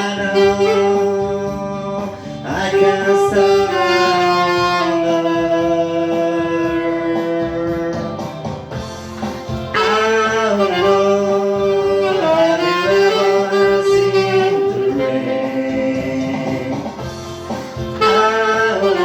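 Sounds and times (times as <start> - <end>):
guitar accompaniment: 0.0 - 19.0
saxophone playing: 0.0 - 19.0.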